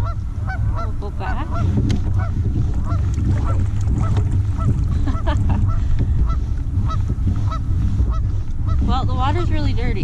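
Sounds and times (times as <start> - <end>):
birds honking: 0.0 - 10.0
steady low rumble: 0.0 - 10.0.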